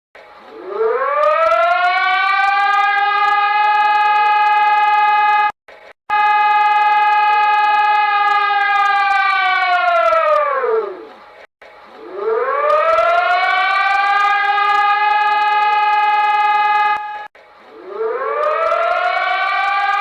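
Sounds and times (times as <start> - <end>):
emergency siren wailing: 0.4 - 11.1, 12.0 - 20.0.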